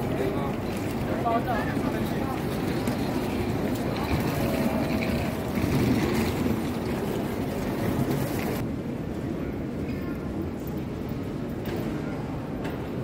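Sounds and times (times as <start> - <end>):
airport terminal hubbub: 0.0 - 13.0.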